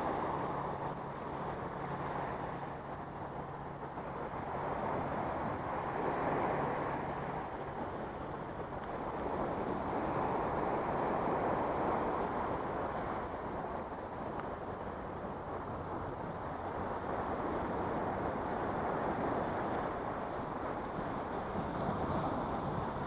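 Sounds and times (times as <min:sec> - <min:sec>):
waves washing over rocks: 0:00.0 - 0:23.0.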